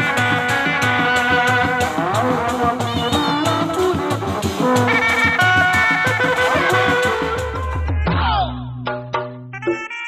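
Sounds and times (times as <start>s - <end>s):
shawm playing wavering melody: 0.0s - 8.1s
frame drums beating: 0.0s - 8.2s.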